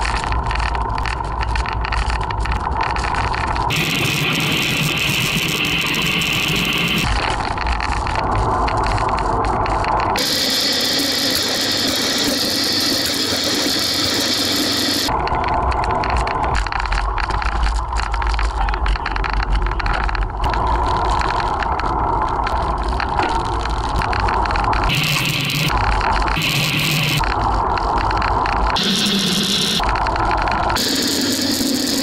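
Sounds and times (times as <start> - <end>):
bicycle road noise and rattle: 0.0 - 32.0.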